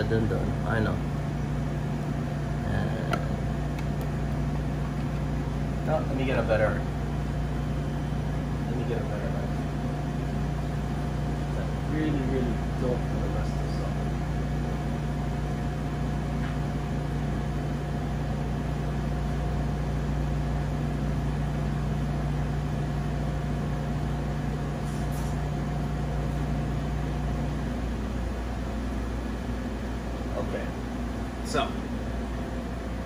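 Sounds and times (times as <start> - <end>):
kitchen equipment hum: 0.0 - 33.0.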